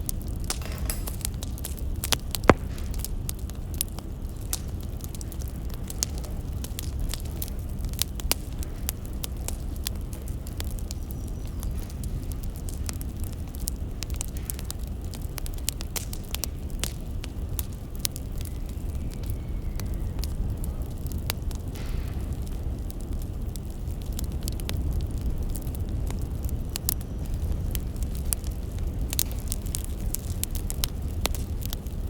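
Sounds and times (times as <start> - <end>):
low rumble of burning logs: 0.0 - 32.0
wood fire crackling and popping: 0.0 - 32.0.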